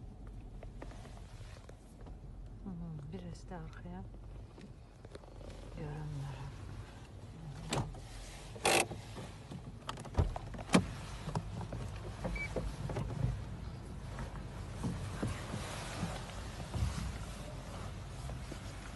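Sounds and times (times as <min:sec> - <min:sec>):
car cabin rumble: 0:00.0 - 0:18.9.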